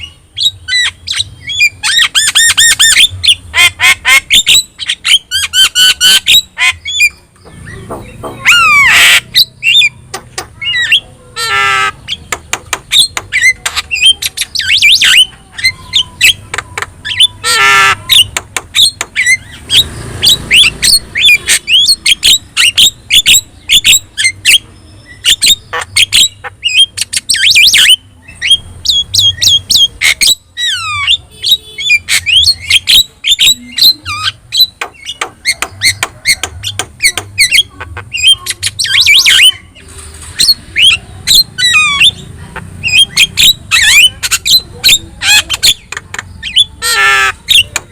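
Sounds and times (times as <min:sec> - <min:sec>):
bird harsh rasping squawks: 0:00.0 - 0:24.6, 0:25.2 - 0:47.9.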